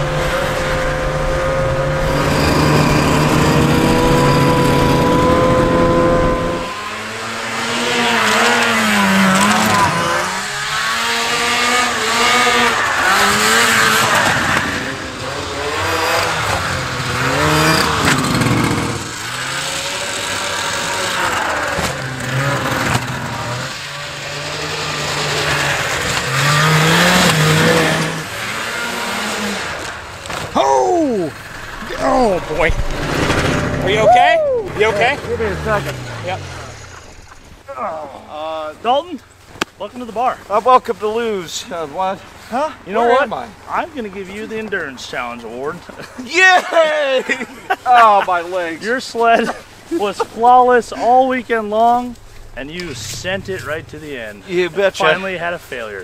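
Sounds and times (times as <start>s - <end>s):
engine revving up and easing off: 0.0s - 37.6s, 47.9s - 56.0s
two-stroke snowmobile engines: 0.0s - 56.0s.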